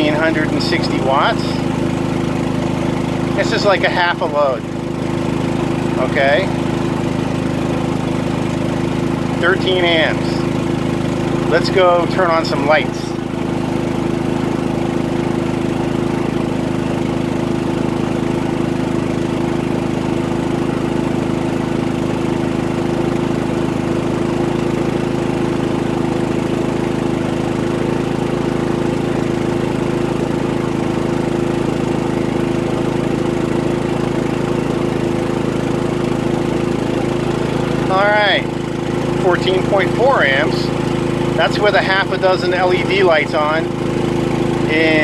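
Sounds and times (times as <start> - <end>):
generator engine running: 0.0 - 45.0.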